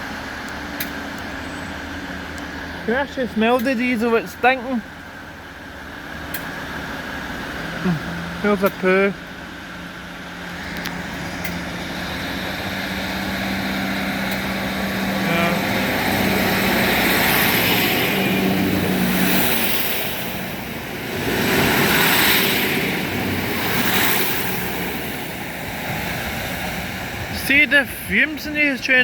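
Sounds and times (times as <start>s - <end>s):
diesel train engines under load: 0.0s - 29.0s.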